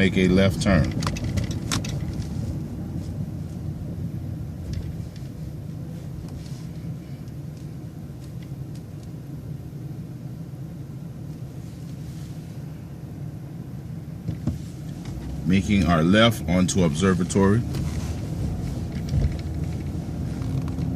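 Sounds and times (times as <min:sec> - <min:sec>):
bus engine rumbling: 0:00.0 - 0:20.9.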